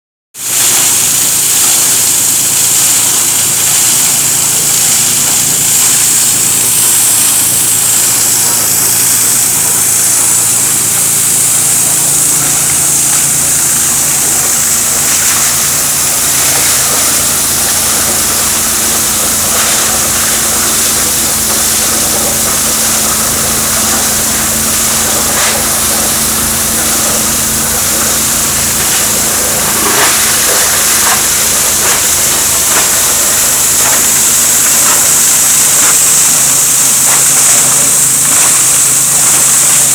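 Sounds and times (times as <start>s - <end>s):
grinding machine running: 0.4s - 39.9s.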